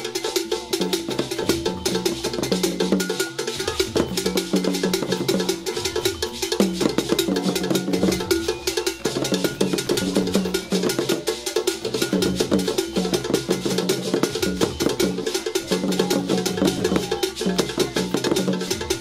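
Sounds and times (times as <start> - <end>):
fast busy percussion rhythm: 0.0 - 19.0.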